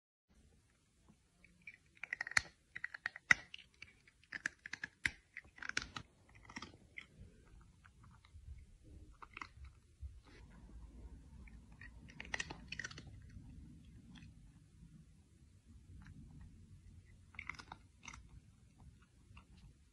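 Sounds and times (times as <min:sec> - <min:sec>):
cat chewing food: 0:01.1 - 0:19.9.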